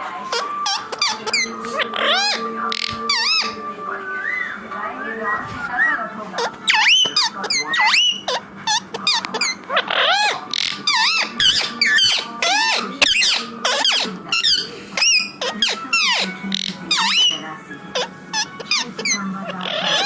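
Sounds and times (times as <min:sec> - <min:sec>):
parrot chirping and whistling: 0:00.3 - 0:04.6, 0:05.3 - 0:20.0.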